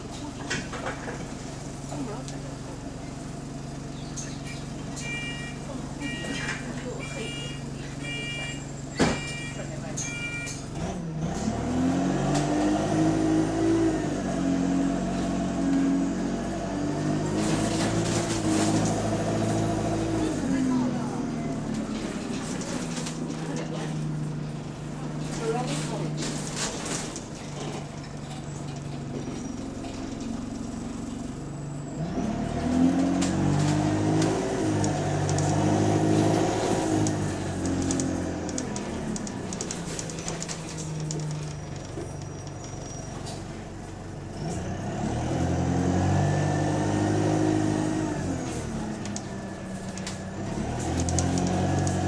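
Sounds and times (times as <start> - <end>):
bus diesel engine accelerating: 0.0 - 52.0.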